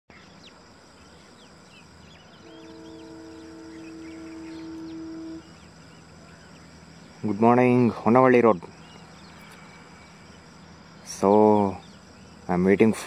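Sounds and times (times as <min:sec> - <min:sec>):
birds chirping: 0:00.1 - 0:13.0
distant horn chord: 0:01.9 - 0:12.5.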